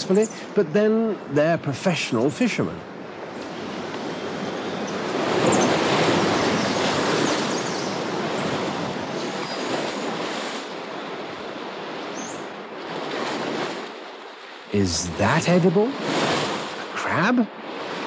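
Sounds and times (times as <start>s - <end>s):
sea waves breaking on shore: 2.9s - 18.0s.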